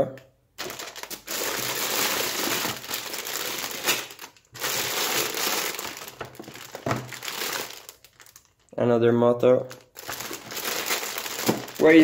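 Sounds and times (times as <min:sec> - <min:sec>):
plastic bags crinkling: 0:00.6 - 0:08.7, 0:09.6 - 0:12.0.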